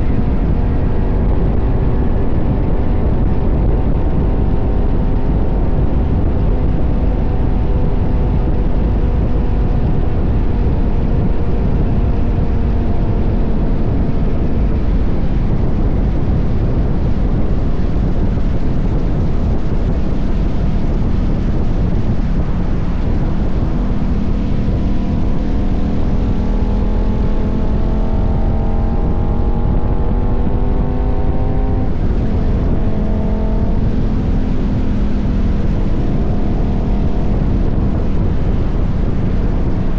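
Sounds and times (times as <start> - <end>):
motorcycle engine running: 0.0 - 39.9
wind rumble: 0.0 - 39.9.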